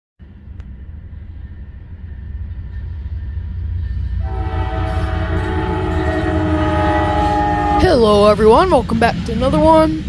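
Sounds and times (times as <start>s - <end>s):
diesel freight train rumble: 0.2s - 10.0s.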